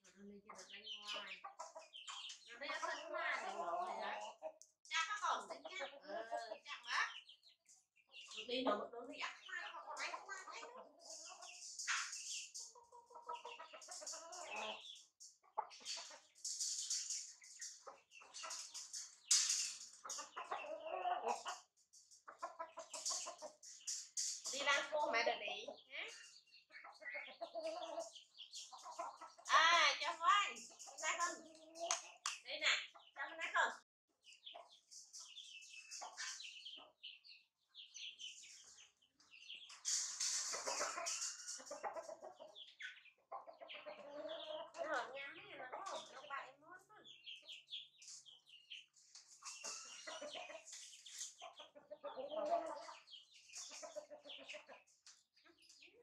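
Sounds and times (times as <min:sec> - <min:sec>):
chickens clucking: 0:00.0 - 0:56.0
chicks peeping: 0:00.0 - 0:56.0.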